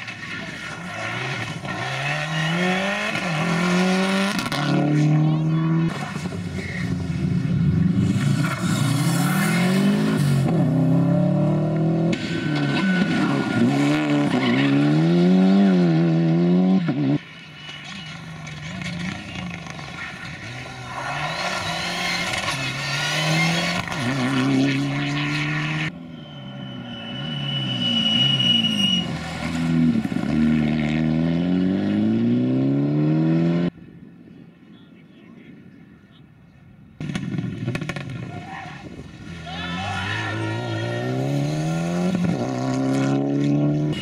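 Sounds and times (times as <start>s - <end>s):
rally car engines revving: 0.0s - 33.8s, 37.0s - 44.0s.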